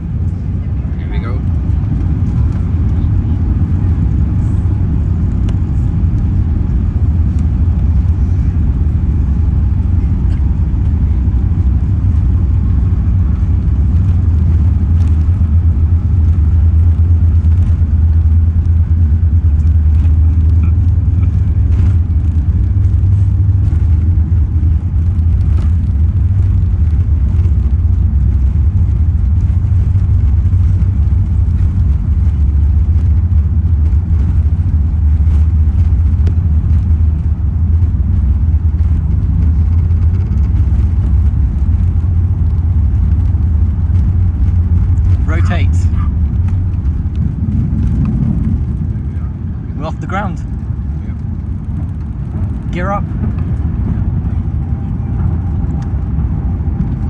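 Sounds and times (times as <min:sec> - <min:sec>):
jet engines and wheels rumbling: 0:00.0 - 0:57.0.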